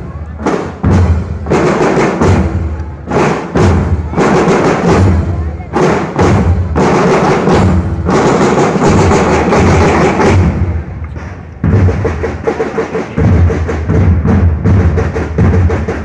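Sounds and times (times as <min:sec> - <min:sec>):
marching drums playing: 0:00.0 - 0:16.0.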